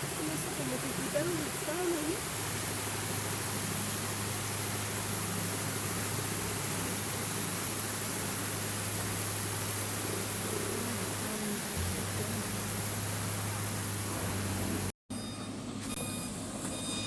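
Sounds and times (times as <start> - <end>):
constant hiss: 0.0 - 14.9
steady low hum: 0.0 - 14.9.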